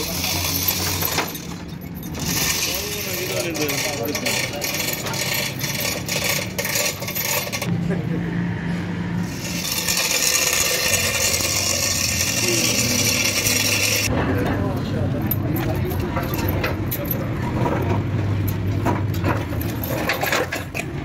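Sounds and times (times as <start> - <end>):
metal scraping with clinks: 0.0 - 7.7, 9.2 - 14.1, 15.2 - 20.9.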